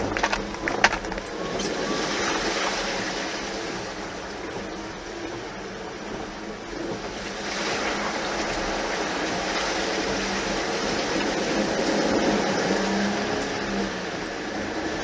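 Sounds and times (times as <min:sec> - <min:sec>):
low engine hum: 0:00.0 - 0:15.0
vehicle splashing through water: 0:00.0 - 0:15.0.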